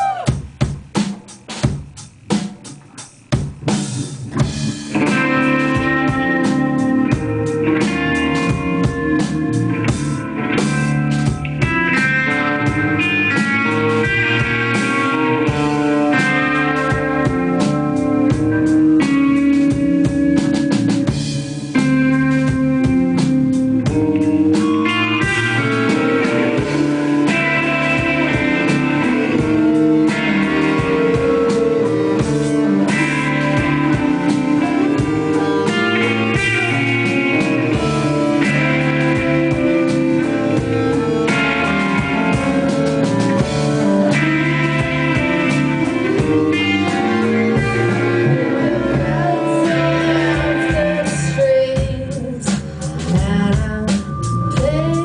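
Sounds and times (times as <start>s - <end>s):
live band with guitar and drums: 0.0s - 55.0s.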